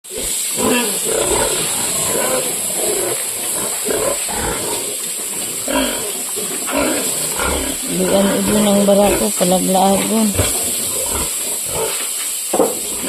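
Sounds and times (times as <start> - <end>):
pigs grunting: 0.0 - 13.0.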